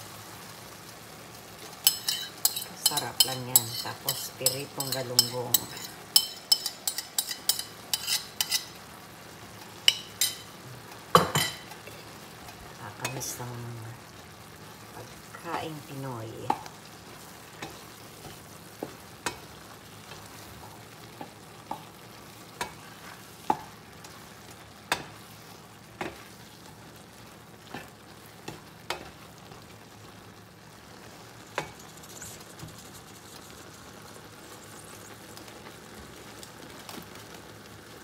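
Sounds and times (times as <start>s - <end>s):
food simmering hiss: 0.0s - 38.0s.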